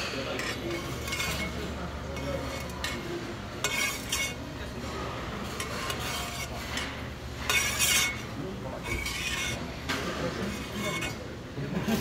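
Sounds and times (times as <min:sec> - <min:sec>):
metal spoon scraping a brass bowl: 0:00.0 - 0:04.5, 0:05.4 - 0:09.8, 0:10.4 - 0:11.3.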